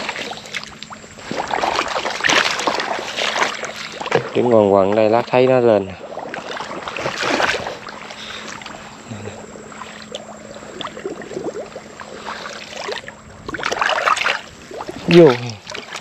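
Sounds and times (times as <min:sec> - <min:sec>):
footsteps splashing in shallow water: 0:00.0 - 0:09.0, 0:09.7 - 0:16.0.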